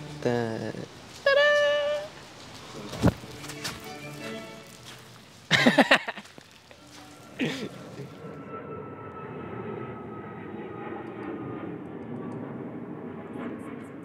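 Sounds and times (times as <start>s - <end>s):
airplane drone passing overhead: 0.0s - 5.5s, 6.6s - 14.0s.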